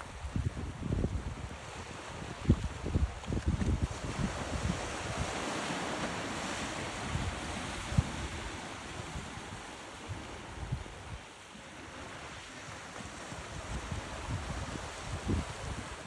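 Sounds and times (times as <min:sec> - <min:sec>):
wind buffeting microphone: 0:00.0 - 0:11.3, 0:13.1 - 0:16.0
sea waves breaking on beach: 0:00.0 - 0:16.0.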